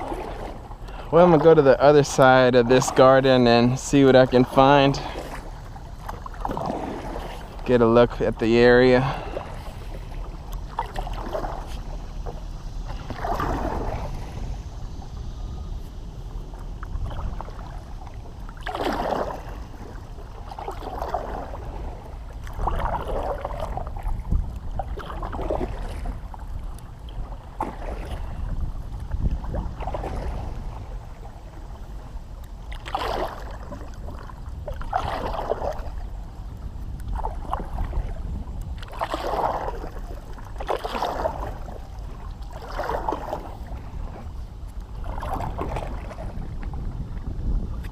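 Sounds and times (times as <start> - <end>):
paddle splashing in water: 0.0 - 47.9.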